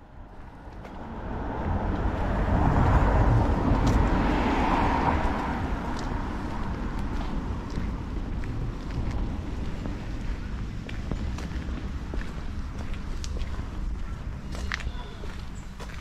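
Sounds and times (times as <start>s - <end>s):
vehicle passing by: 0.2s - 14.2s.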